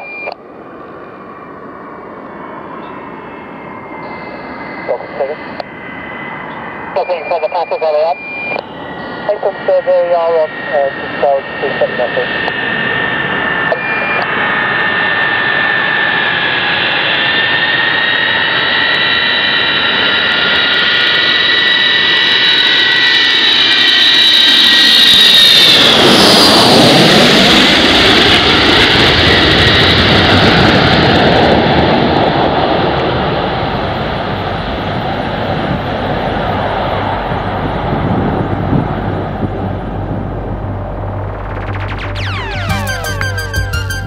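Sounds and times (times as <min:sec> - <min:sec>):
jet aircraft whistling howl: 0:00.0 - 0:07.5, 0:08.2 - 0:43.5
jet roar: 0:08.4 - 0:43.8.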